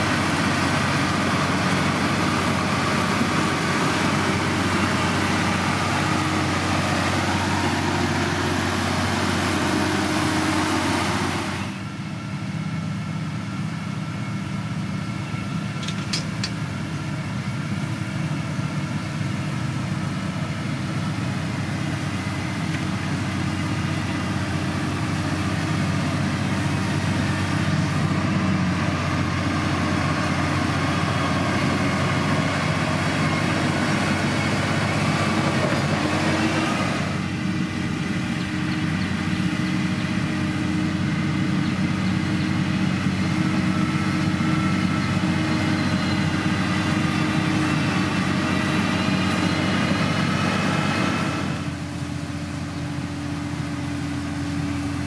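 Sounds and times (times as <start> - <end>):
diesel construction machinery drone: 0.0 - 55.0.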